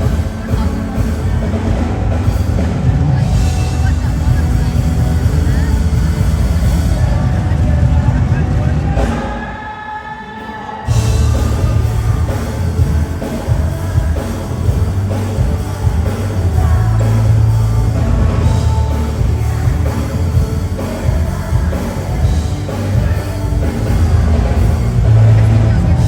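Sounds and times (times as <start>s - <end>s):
booming bass: 0.0s - 9.2s, 10.9s - 26.0s
live rock music with singing: 0.0s - 26.0s.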